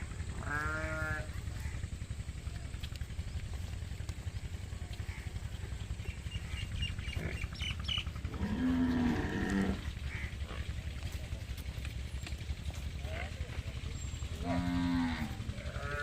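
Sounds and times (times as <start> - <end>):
large farm animal calling: 0.0 - 2.4, 4.2 - 16.0
steady low rumble: 0.0 - 16.0.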